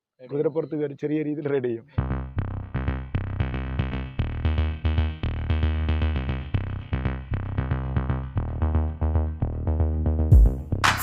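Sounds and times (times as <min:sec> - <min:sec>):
background music with beat: 0:02.0 - 0:11.0
deep bass line: 0:02.0 - 0:11.0.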